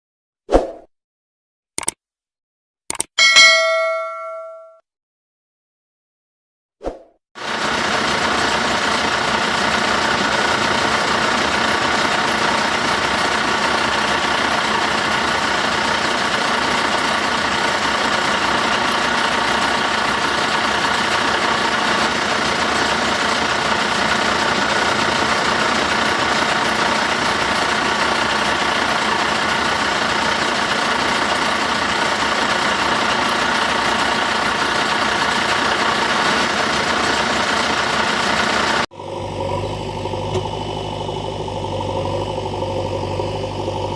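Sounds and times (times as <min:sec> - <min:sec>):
diesel engine idling: 0:07.4 - 0:43.9.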